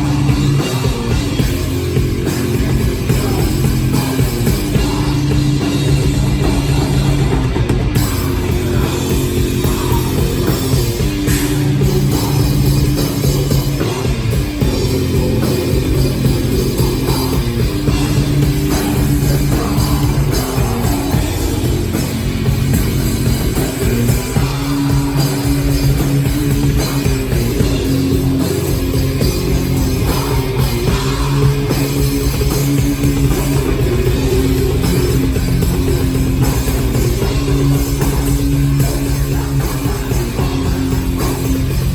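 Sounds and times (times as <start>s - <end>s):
drum kit: 0.0s - 41.9s
electric guitar: 0.0s - 41.9s
rock band playing live: 0.0s - 41.9s.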